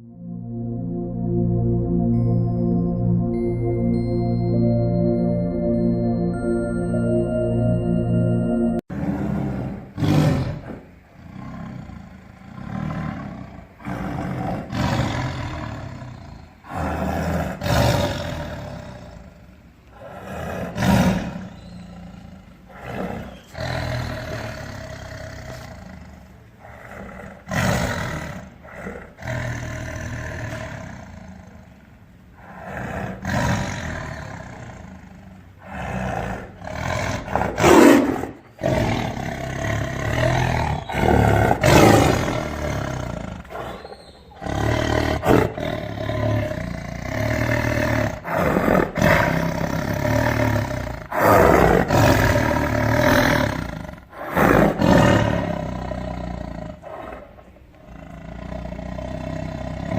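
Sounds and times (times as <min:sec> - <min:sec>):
tiger roaring: 0:09.0 - 0:59.9.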